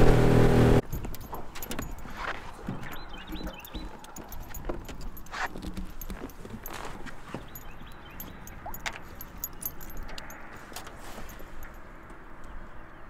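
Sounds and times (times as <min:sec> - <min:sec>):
dog collar jingling: 0:00.8 - 0:11.9.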